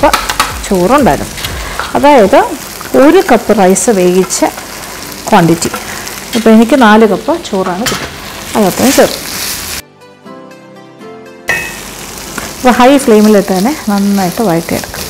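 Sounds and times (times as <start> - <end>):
rice sizzling in a wok: 0.0 - 9.8, 11.5 - 15.0.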